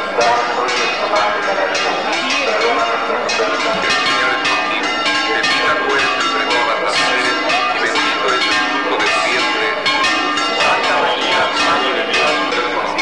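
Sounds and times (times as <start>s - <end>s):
church bells ringing a peal: 0.0s - 13.0s.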